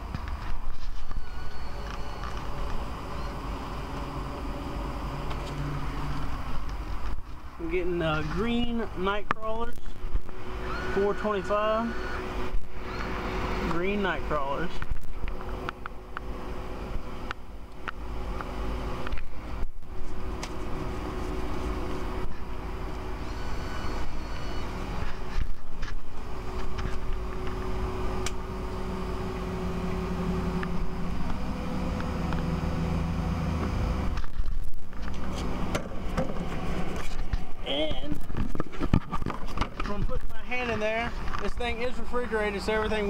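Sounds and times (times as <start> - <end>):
motor hum: 0.0 - 43.0
vending machine mechanical hum: 0.0 - 43.0.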